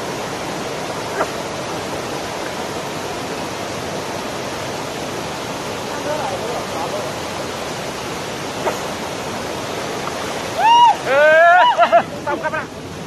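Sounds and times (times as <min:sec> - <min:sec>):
waterfall rushing over boulders: 0:00.0 - 0:13.0.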